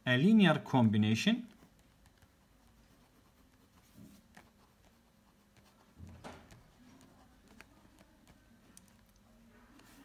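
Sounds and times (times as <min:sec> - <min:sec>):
pen writing on paper: 0:01.5 - 0:10.0.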